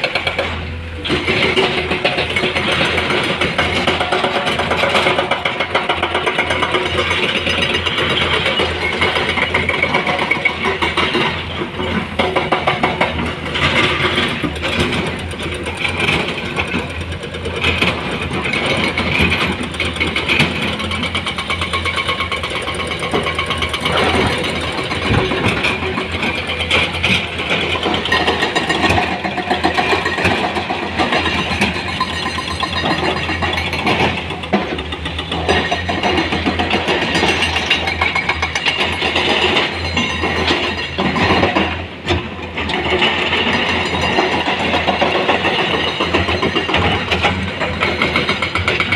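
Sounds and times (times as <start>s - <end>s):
diesel engines running: 0.0s - 48.9s.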